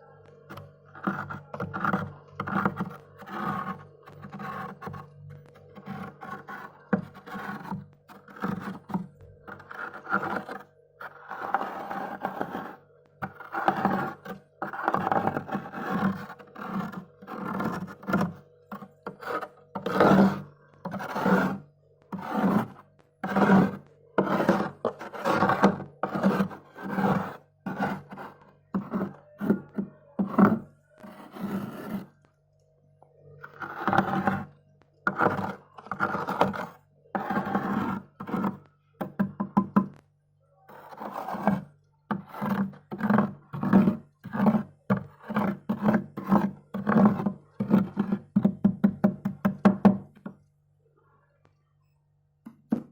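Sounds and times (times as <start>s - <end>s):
bowl scraping frost: 0.9s - 32.2s, 33.4s - 39.2s, 40.7s - 48.6s.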